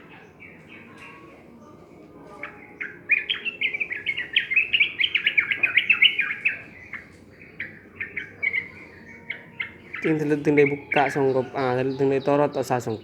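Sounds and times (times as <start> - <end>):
bulbul singing: 0.0 - 13.0.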